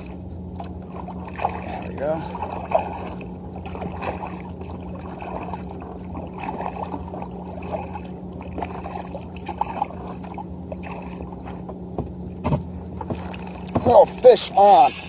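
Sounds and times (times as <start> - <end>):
small waves lapping on plastic hull: 0.0 - 14.3
low hum: 0.0 - 15.0.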